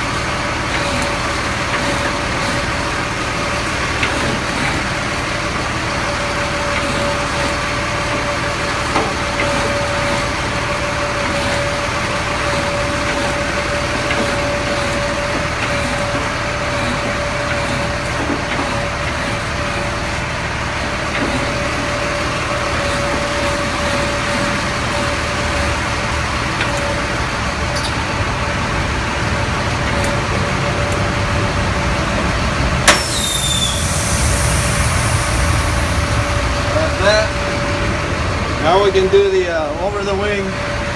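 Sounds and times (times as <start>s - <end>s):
steady whine: 0.0s - 40.9s
truck engine running: 0.0s - 40.9s.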